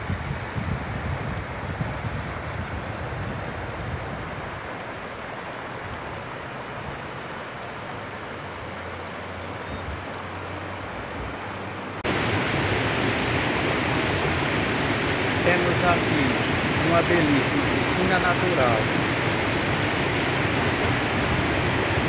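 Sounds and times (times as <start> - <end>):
river water rushing over rocks: 1.3 - 22.0.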